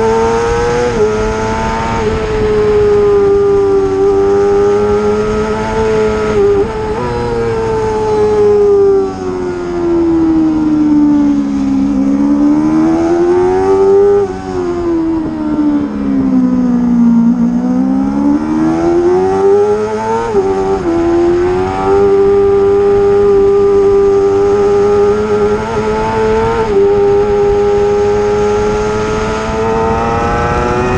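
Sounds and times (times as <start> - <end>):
racing motorcycle engine revving: 0.0 - 30.9.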